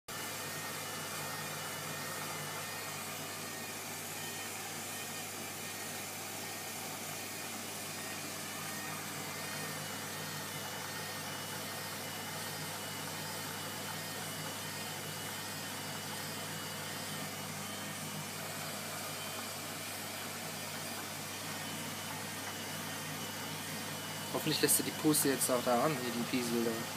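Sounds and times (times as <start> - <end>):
washing machine humming: 0.1 - 26.9.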